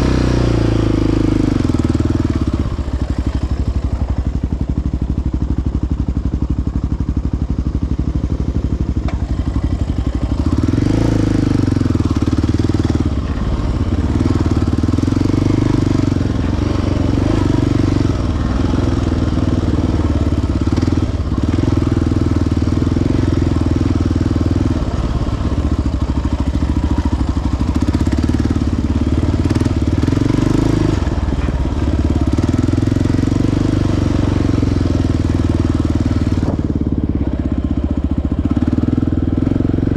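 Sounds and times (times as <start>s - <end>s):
quad engine revving: 0.0s - 5.0s, 8.6s - 39.9s.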